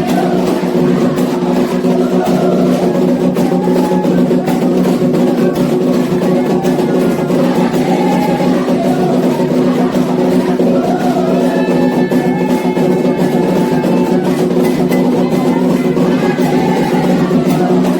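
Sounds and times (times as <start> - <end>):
group singing: 0.0 - 17.9
hand drums beating: 0.0 - 17.9.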